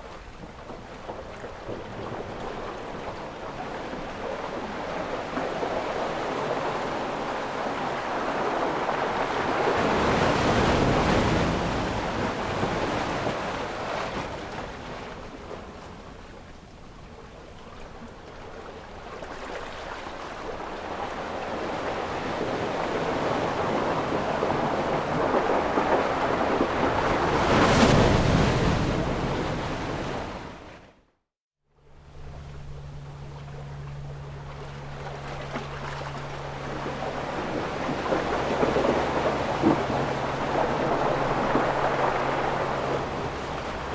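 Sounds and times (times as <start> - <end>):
ocean waves breaking: 0.0 - 31.0, 32.1 - 43.9.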